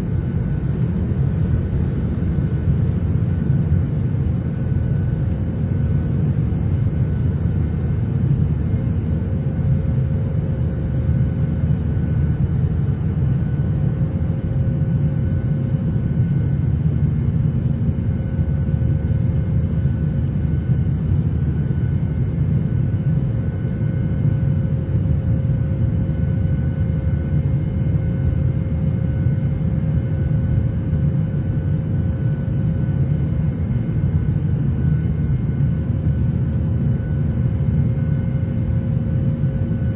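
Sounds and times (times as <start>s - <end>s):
airliner engine and airflow rumble: 0.0s - 39.9s
faint constant hum: 0.0s - 39.9s.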